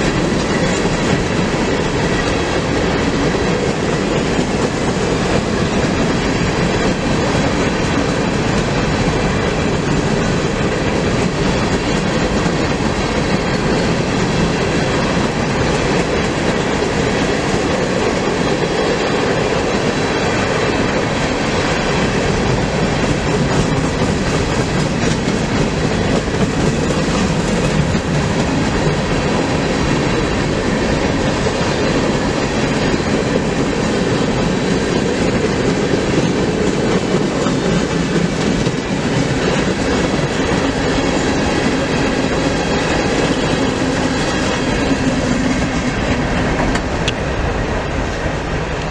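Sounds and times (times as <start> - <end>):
train cars rolling past: 0.0 - 48.9.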